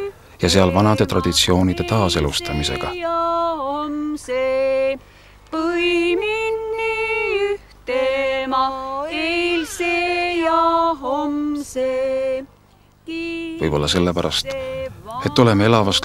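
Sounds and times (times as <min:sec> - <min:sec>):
women singing unaccompanied: 0:00.0 - 0:16.0.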